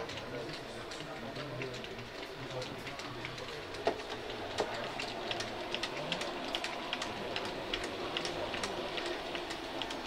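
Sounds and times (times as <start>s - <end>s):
low running noise: 0.0s - 10.0s
model train wheels clicking on rail joints: 0.0s - 10.0s.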